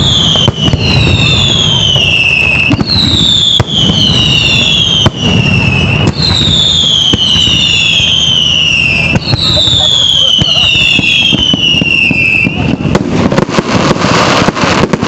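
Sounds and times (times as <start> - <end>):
firework bangs: 0.0 - 15.0
whistling fireworks: 0.0 - 15.0.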